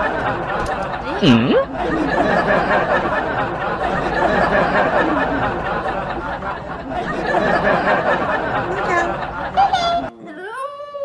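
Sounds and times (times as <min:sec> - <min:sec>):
babble of many voices: 0:00.0 - 0:11.0
people laughing: 0:00.0 - 0:11.0.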